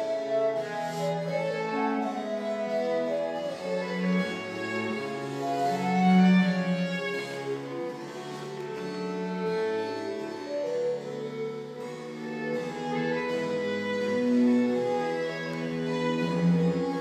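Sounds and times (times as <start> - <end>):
cello: 0.0 - 17.0
violin: 0.0 - 17.0.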